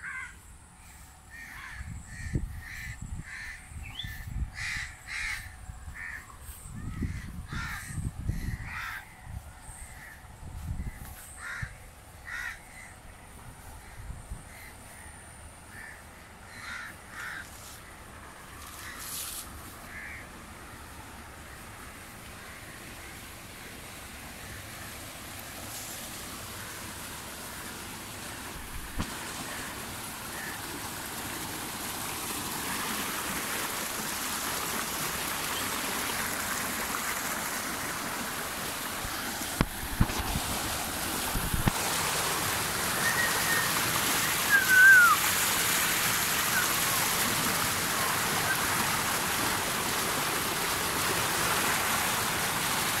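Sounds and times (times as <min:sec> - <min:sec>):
water rushing along a channel: 0:00.0 - 0:53.0.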